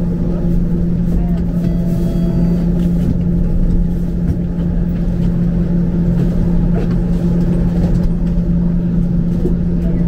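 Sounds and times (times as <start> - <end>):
streetcar electrical hum: 0.0 - 10.0.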